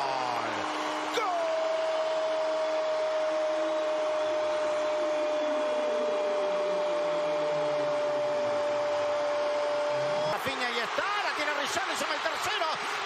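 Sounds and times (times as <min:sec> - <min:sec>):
stadium crowd noise: 0:00.0 - 0:13.0.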